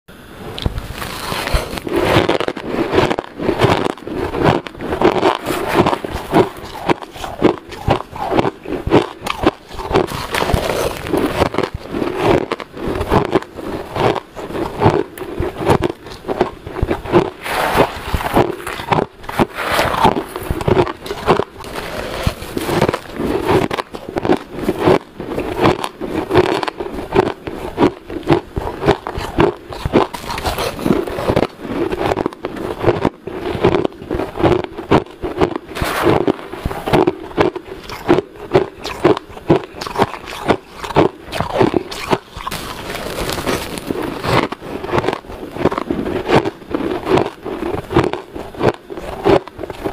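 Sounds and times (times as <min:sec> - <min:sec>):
chewing shaved ice crunches: 0:00.6 - 0:49.9.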